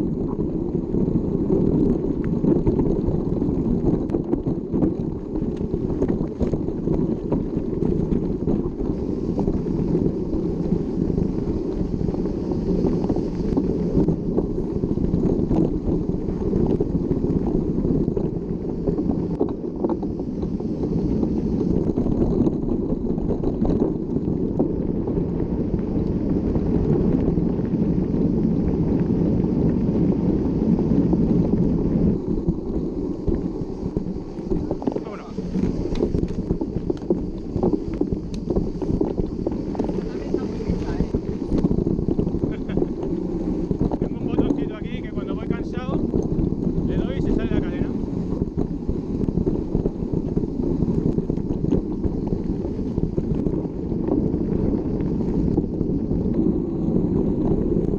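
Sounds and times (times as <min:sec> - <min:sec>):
bike rattling on dirt trail: 0:00.0 - 0:57.9
wind buffeting microphone: 0:00.0 - 0:57.9.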